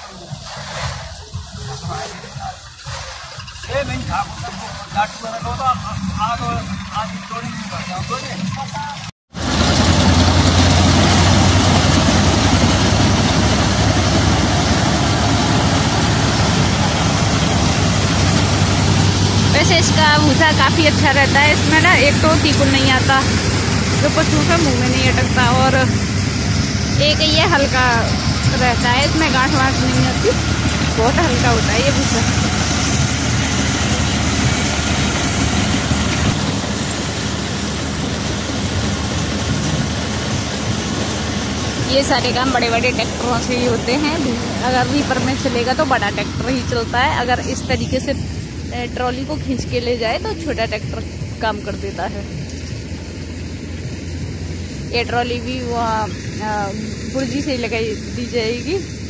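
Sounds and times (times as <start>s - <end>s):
tractor engine hum: 0.0s - 59.0s.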